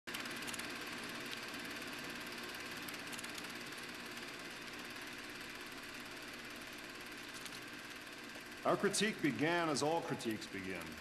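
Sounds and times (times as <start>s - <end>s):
film projector whirring clatter: 0.1s - 11.0s.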